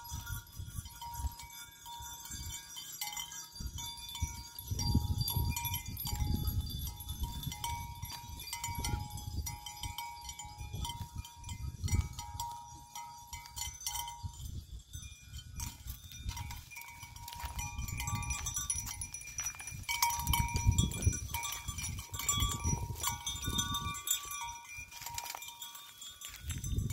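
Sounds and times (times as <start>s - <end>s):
faint thin ringing tones: 0.0s - 26.9s
goat rustling and eating leaves: 0.0s - 26.9s.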